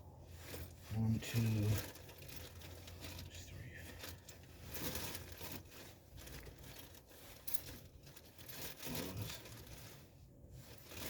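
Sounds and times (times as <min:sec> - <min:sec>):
small metal parts rustling: 0:00.3 - 0:11.0.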